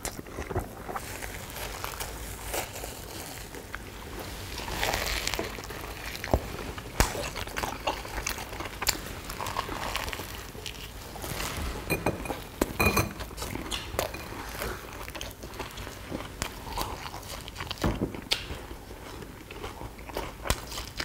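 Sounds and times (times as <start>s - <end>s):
crunching fried doughnuts: 0.0s - 11.8s, 13.2s - 21.0s.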